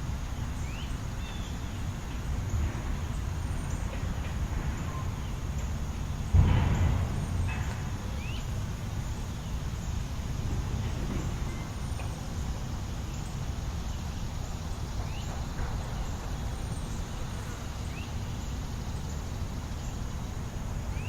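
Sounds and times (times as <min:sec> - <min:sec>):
distant traffic rumble: 0:00.0 - 0:21.0
wind: 0:00.0 - 0:21.0.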